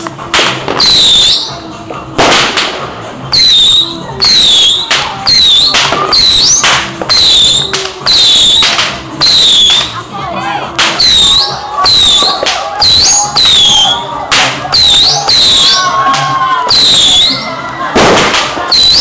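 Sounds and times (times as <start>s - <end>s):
fireworks bursting: 0.0s - 10.1s, 10.7s - 19.0s
fireworks whistling: 0.4s - 10.0s, 10.9s - 16.0s, 16.7s - 19.0s.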